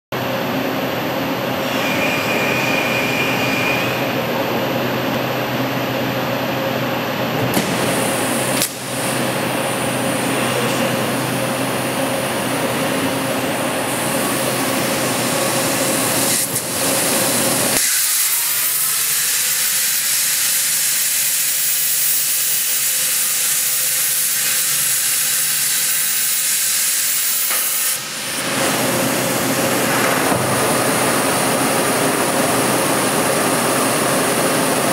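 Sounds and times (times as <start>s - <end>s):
machine and shop noise: 0.2s - 34.9s.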